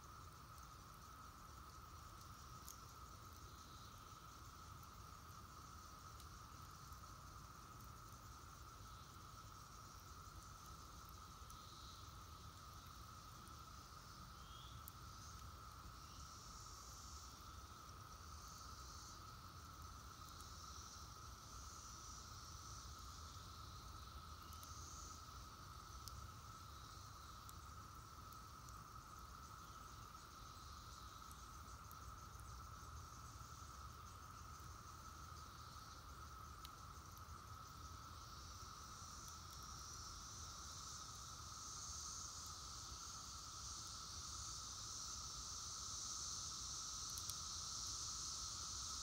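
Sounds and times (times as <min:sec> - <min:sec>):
faint cicada chorus drone: 0:00.0 - 0:49.0
high hissing insect buzz: 0:00.0 - 0:49.0.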